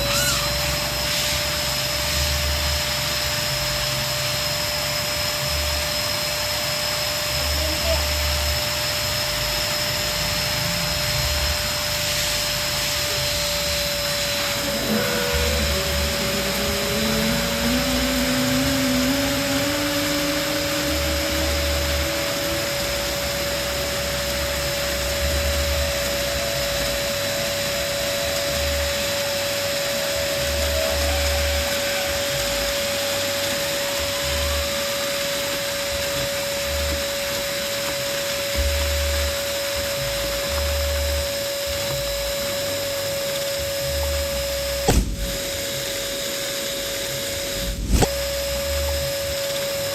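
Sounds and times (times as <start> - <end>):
electric balloon pump running: 0.0 - 49.9.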